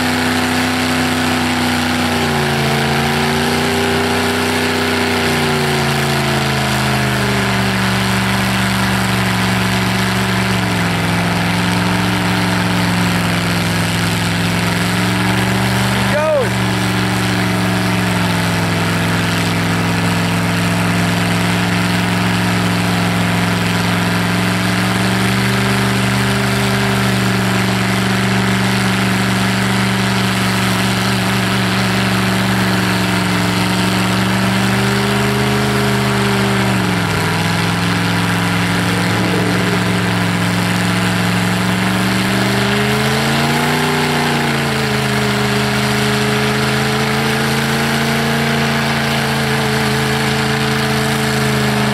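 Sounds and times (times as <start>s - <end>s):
truck engine idling: 0.0s - 51.2s.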